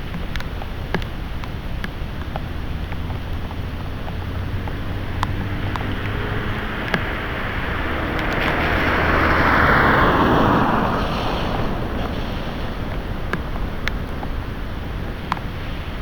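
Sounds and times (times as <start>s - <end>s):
drops ticking on hard surface: 0.0s - 16.0s
heavy rain: 0.0s - 16.0s
strong wind gusts: 0.0s - 16.0s.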